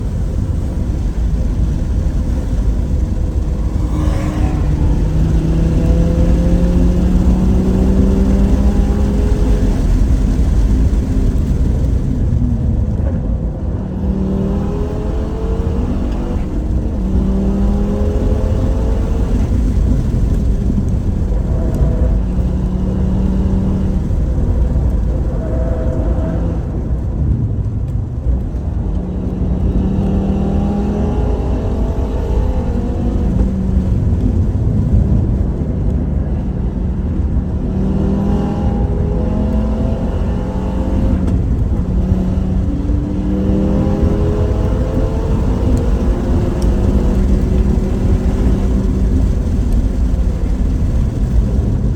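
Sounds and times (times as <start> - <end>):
car engine accelerating: 0.0 - 51.9
wind and road rumble: 0.0 - 51.9.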